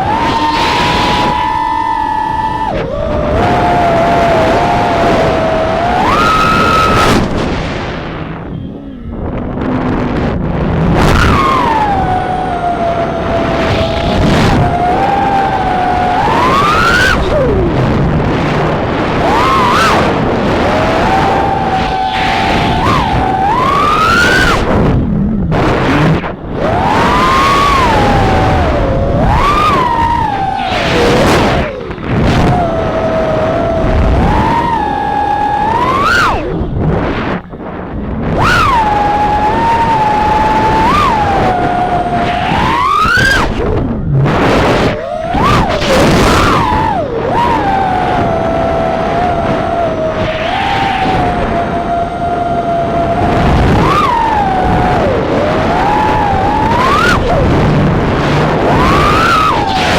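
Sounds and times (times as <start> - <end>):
drone motors whining: 0.0 - 59.9
rushing noise: 0.0 - 59.9.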